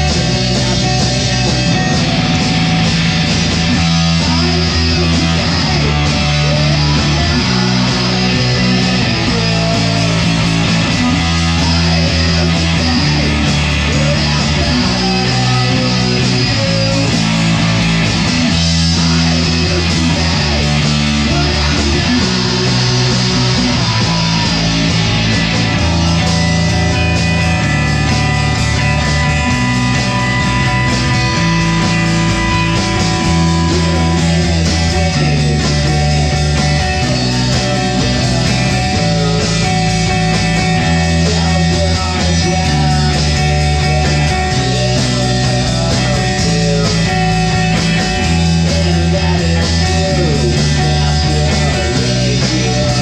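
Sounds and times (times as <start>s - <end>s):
bass guitar: 0.0s - 53.0s
drums: 0.0s - 53.0s
electric guitars: 0.0s - 53.0s
guitar holding long high notes: 0.0s - 53.0s.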